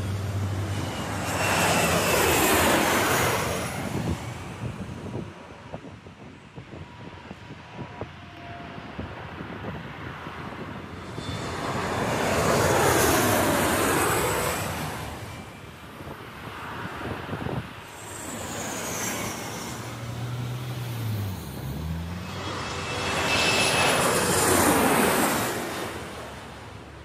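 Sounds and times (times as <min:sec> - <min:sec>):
jet airliner passing overhead: 0:00.0 - 0:27.0.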